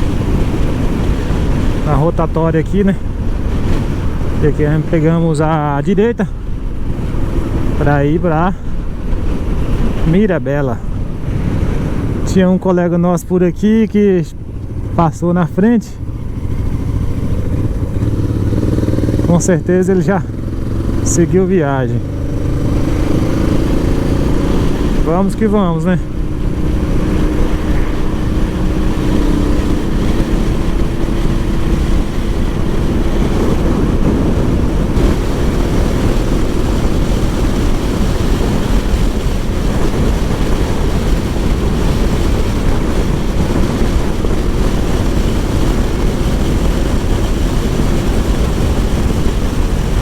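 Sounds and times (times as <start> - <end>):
motorcycle engine running: 0.0 - 50.0
wind rushing over microphone: 0.0 - 50.0.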